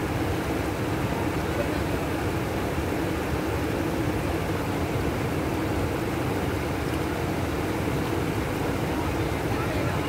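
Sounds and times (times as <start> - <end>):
fast-flowing river rushing: 0.0 - 10.0.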